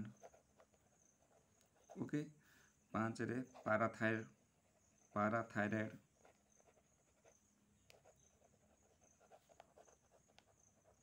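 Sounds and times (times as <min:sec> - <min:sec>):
pen scratching on paper: 0:00.0 - 0:02.2, 0:03.4 - 0:11.0.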